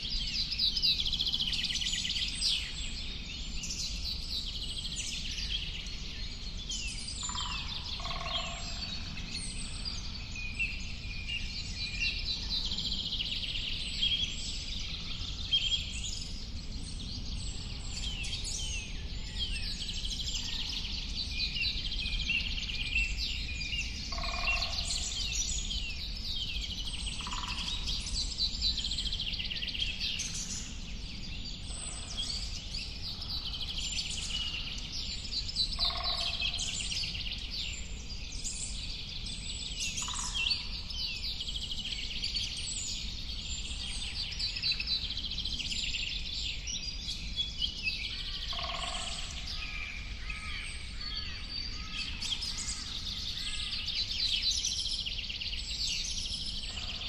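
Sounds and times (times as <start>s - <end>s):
chorus of birds singing: 0.0s - 57.0s.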